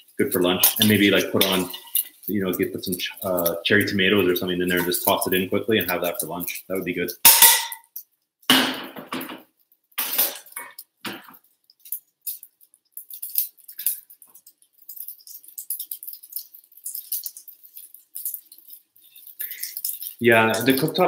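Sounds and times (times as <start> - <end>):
utensil scraping in frying pan: 0.0 - 8.0, 10.0 - 21.0.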